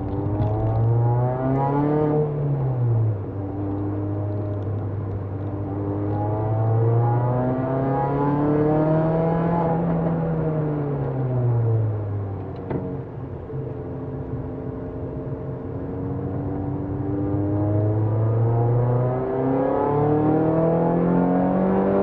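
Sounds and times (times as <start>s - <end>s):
car engine revving inside cabin: 0.0s - 13.1s, 14.9s - 22.0s.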